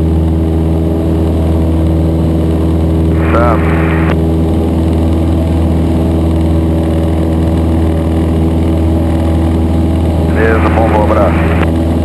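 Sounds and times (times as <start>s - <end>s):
small plane engine and propeller: 0.0s - 12.0s.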